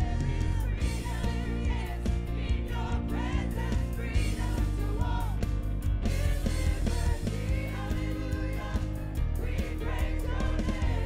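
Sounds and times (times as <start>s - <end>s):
steady drum beat: 0.0s - 11.0s
voices singing: 0.0s - 11.0s
worship band playing: 0.0s - 11.0s.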